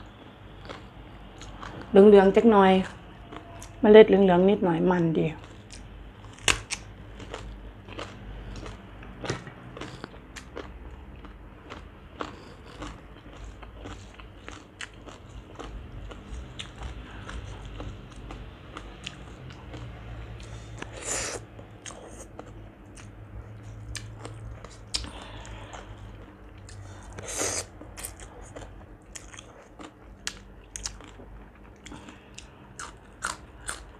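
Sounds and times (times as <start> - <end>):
close-up crunchy chewing: 0.5 - 1.9, 5.4 - 33.9.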